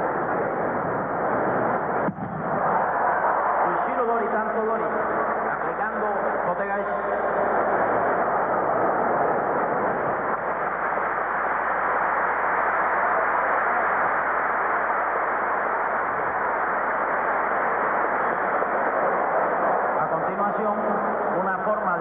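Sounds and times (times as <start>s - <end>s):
arena crowd noise: 0.0s - 22.0s.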